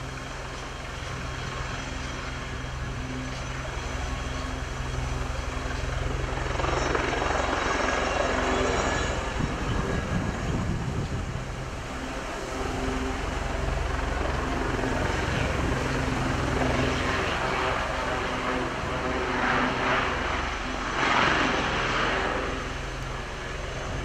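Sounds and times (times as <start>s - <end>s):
helicopter hovering: 0.0s - 24.0s.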